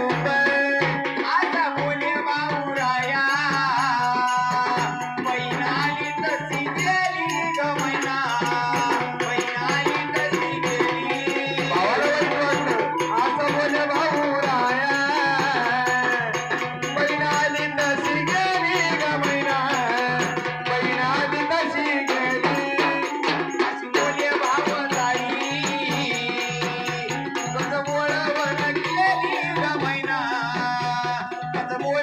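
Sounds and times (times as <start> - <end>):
hand drums: 0.0 - 32.0
keyboard: 0.0 - 32.0
person singing: 0.0 - 32.0
rattling percussion: 0.0 - 32.0.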